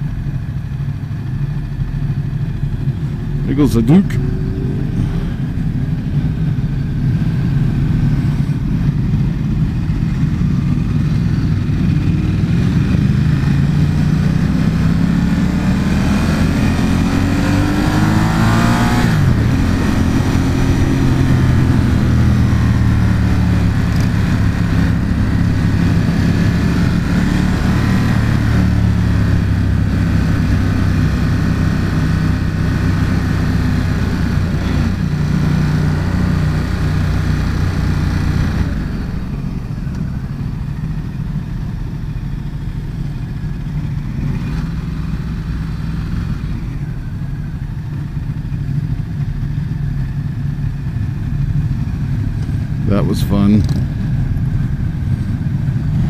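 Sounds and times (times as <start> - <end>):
motorcycle engine accelerating hard: 0.0 - 56.0.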